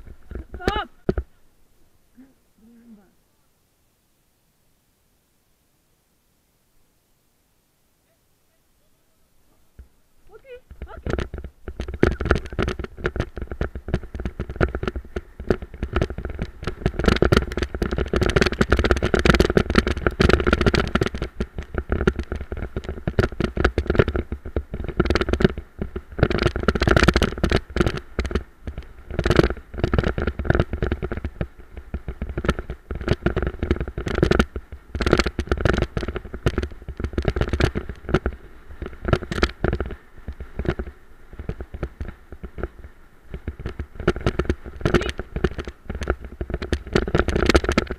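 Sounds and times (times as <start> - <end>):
cart rumbling over dirt trail: 0.0 - 3.1, 8.5 - 47.9.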